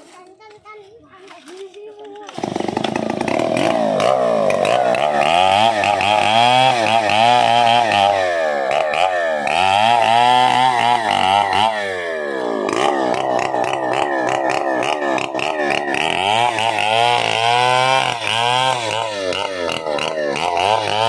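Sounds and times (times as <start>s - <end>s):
chainsaw revving: 1.3s - 21.0s.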